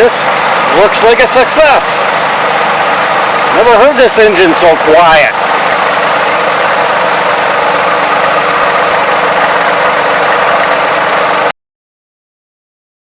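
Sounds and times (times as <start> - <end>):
car engine idling: 0.0 - 11.5.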